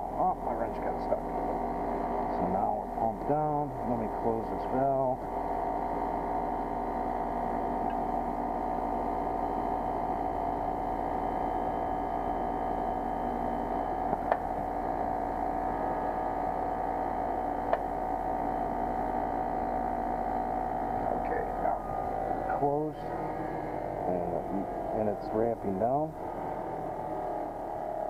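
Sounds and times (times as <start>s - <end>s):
heat pump humming: 0.0s - 28.0s.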